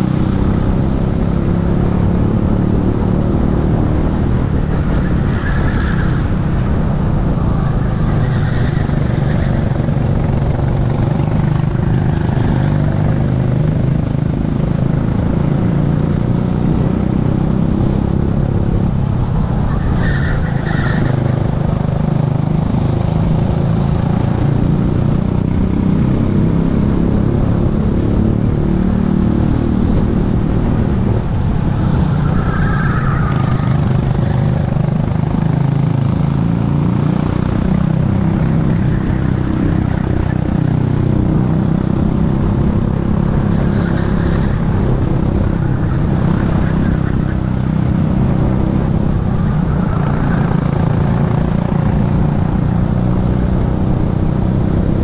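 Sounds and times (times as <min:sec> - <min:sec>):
kart engine revving: 0:00.0 - 0:16.0, 0:25.0 - 0:55.0.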